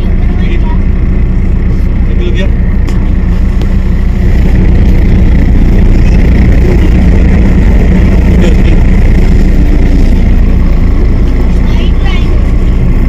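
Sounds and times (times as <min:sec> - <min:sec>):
car engine rumble from inside: 0:00.0 - 0:13.0.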